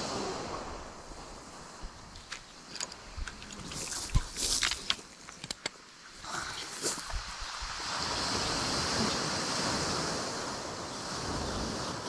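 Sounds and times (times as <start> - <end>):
surf washing on shore: 0.0 - 5.2, 5.8 - 12.0.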